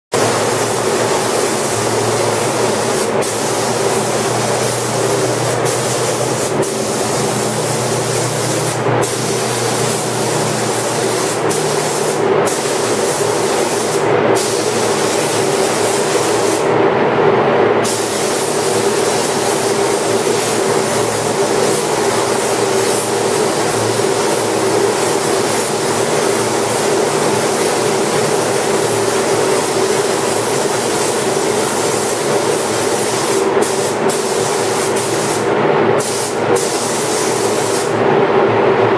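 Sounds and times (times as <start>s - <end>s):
paint spray gun hissing: 0.2s - 16.7s, 17.8s - 37.9s.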